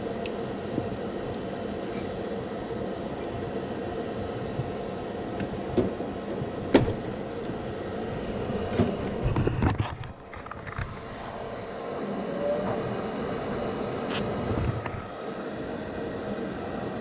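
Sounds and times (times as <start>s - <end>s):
furnace humming: 0.0s - 17.0s.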